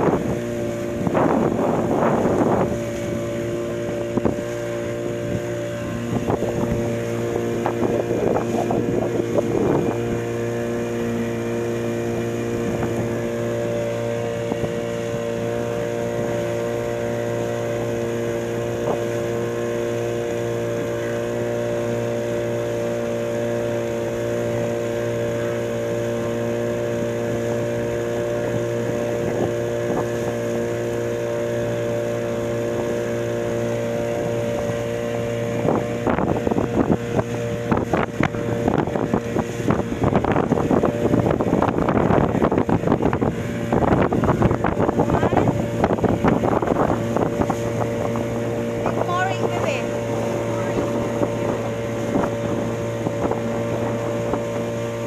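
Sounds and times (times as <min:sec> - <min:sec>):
outboard motor running: 0:00.0 - 0:55.0
wind on microphone: 0:00.0 - 0:55.0.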